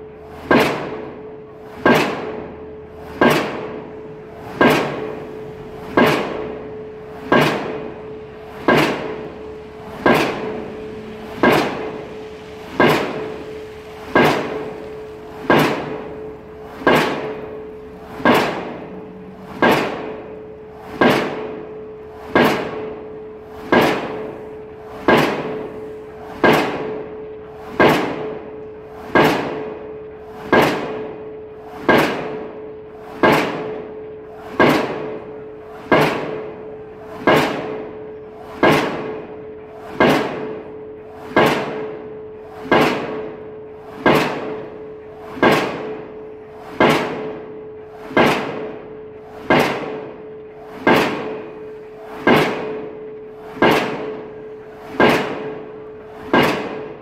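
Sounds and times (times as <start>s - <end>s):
pile hammer metallic bangs: 0.0s - 57.0s.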